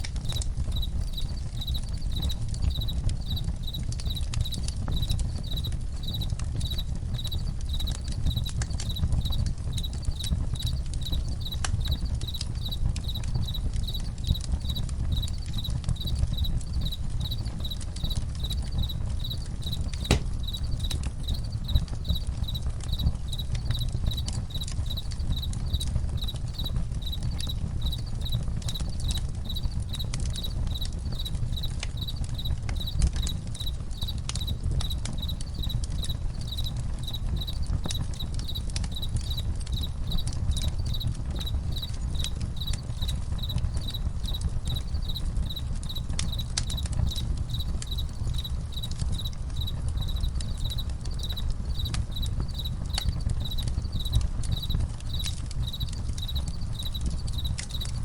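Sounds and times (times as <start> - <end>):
campfire crackling and popping: 0.0 - 58.0
crickets chirping: 0.2 - 58.0.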